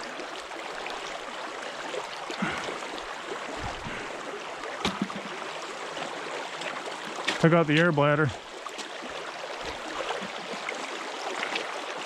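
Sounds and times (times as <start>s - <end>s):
creek water running over riffle: 0.0s - 12.0s.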